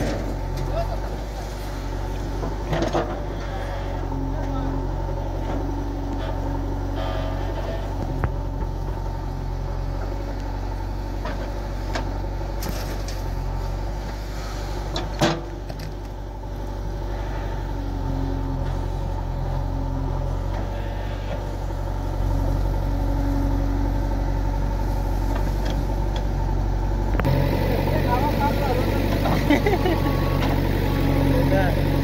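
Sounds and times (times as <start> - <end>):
diesel digger engine running: 0.0 - 32.0.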